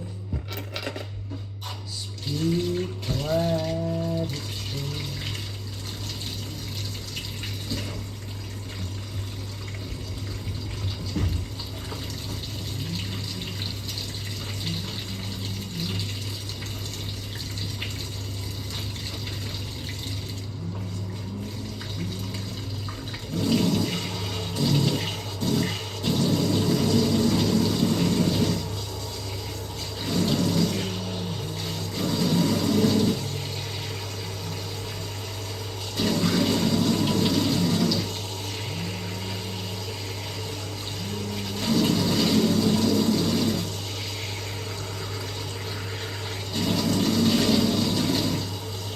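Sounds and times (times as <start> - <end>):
water gushing: 1.6 - 48.9.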